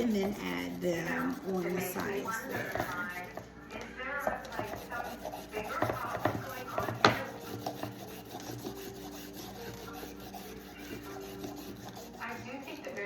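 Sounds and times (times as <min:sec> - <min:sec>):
peeler scraping carrot: 0:00.0 - 0:03.4, 0:04.2 - 0:13.0.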